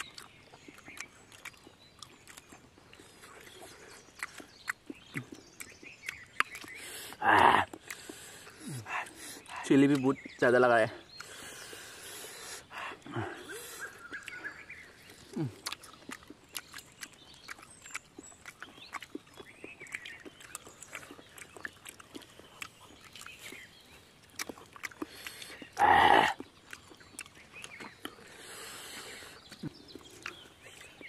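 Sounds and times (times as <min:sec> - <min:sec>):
chewing and lip-smacking: 0:00.0 - 0:31.0.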